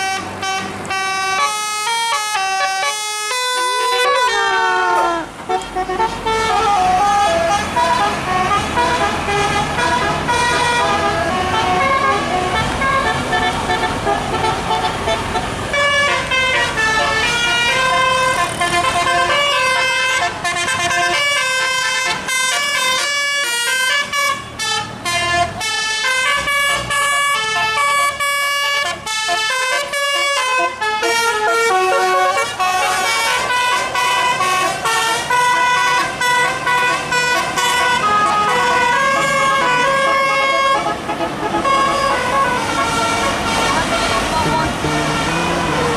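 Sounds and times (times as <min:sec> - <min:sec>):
bus engines: 0:00.0 - 0:45.9
musical air horns: 0:00.0 - 0:45.9.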